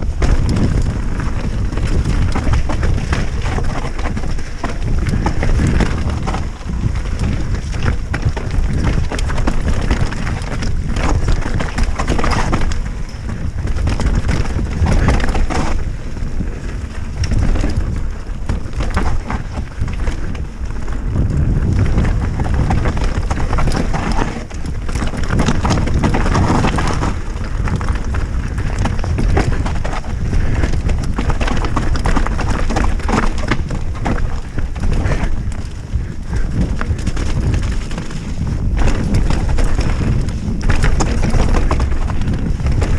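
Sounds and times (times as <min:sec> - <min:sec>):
bike clattering over bumps: 0:00.0 - 0:42.9
tyres crunching over dirt: 0:00.0 - 0:42.9
wind rumble on microphone: 0:00.0 - 0:42.9.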